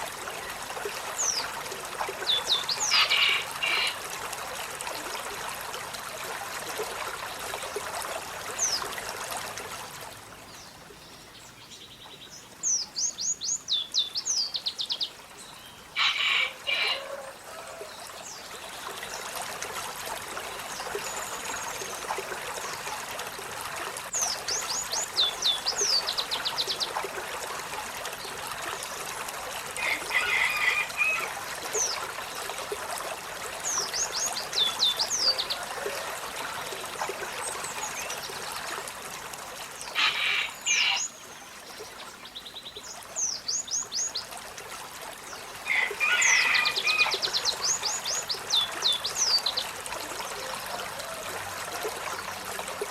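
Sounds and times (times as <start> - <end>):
water trickling: 0.0 - 52.9.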